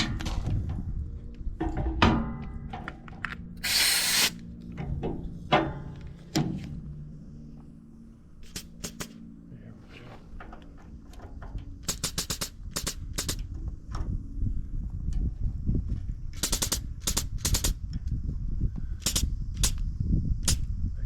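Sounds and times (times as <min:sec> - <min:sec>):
low rumble of machinery: 0:00.0 - 0:21.0.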